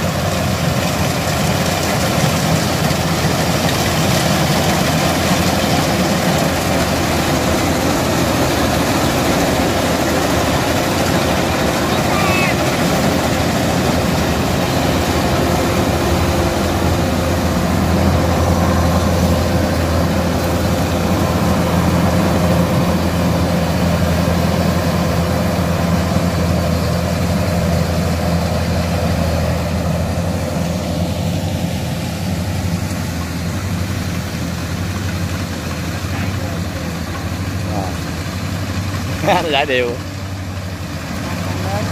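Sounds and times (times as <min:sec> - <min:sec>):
combine harvester diesel engine running: 0:00.0 - 0:41.9.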